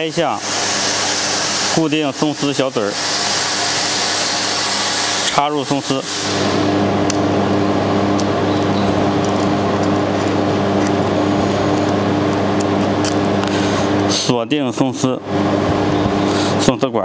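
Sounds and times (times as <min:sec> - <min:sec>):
laser welding machine humming: 0:00.0 - 0:17.0.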